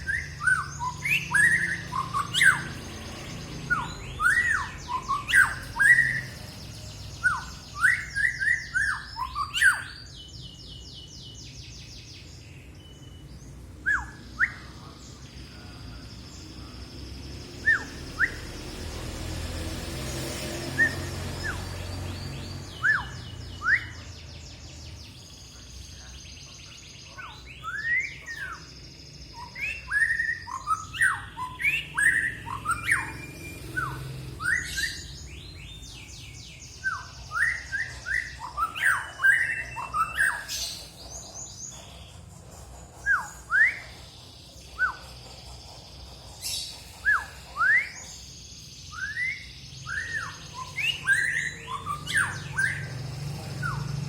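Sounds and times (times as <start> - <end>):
songbird singing whistles and trills: 0.0 - 54.0.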